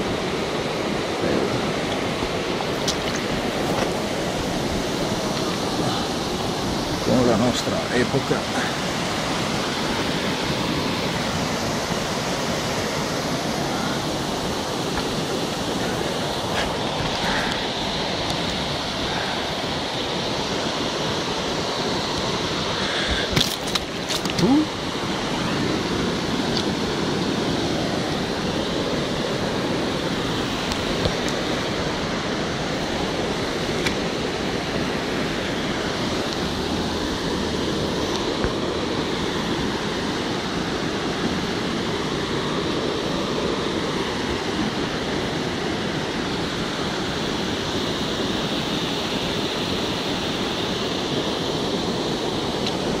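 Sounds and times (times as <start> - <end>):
stream water rushing over stones: 0.0 - 53.0.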